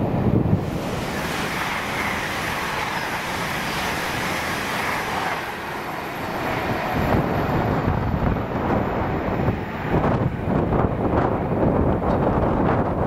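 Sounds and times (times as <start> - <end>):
wind noise on microphone: 0.0 - 13.0
train coaches rushing past: 0.5 - 12.6.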